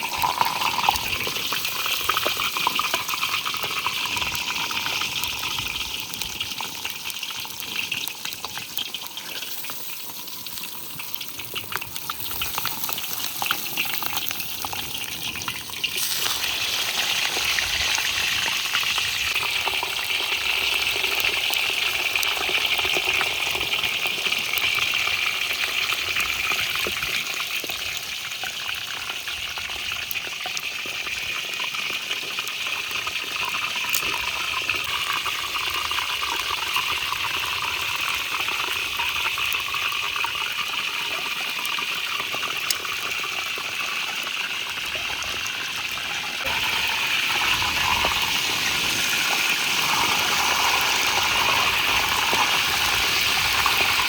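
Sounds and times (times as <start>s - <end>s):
fish frying in hot oil: 0.0s - 54.0s.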